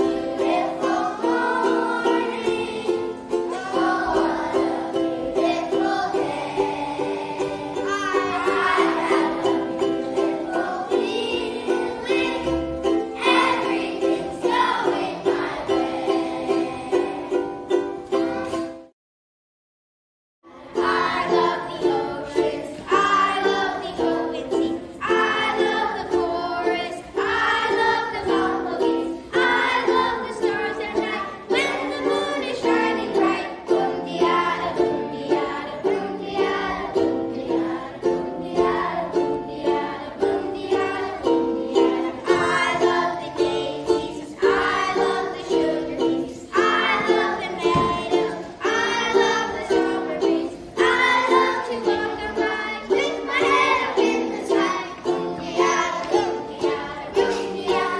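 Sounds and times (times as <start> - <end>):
children singing: 0.0 - 18.8, 20.5 - 57.9
strummed stringed instrument: 0.0 - 18.9, 20.5 - 57.9.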